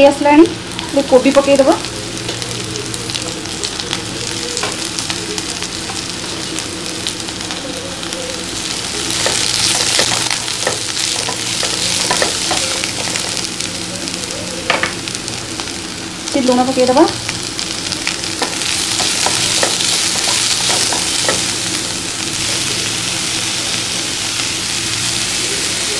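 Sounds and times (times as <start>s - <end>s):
vegetables sizzling in hot oil: 0.0s - 25.9s.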